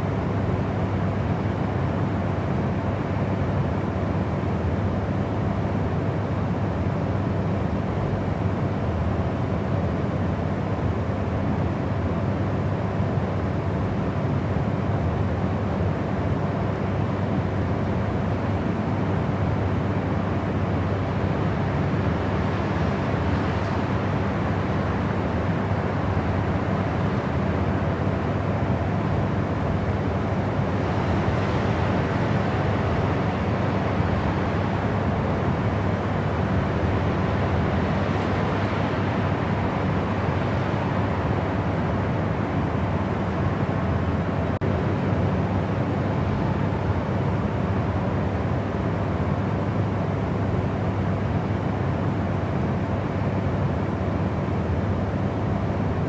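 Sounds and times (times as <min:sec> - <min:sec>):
low white noise rush: 0:00.0 - 0:56.0.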